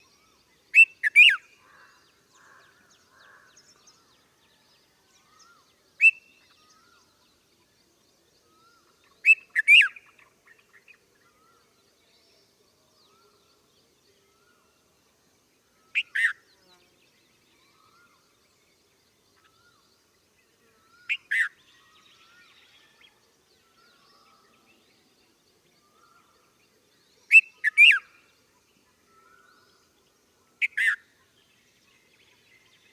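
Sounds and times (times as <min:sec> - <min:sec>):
faint bird twittering: 0:00.0 - 0:32.9.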